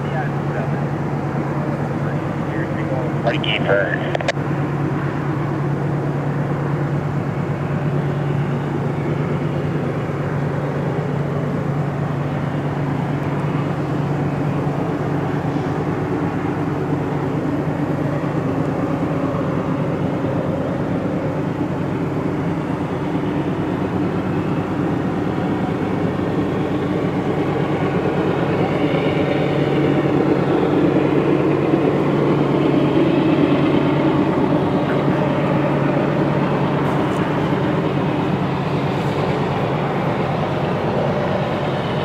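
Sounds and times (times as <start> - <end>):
low engine drone: 0.0 - 42.0.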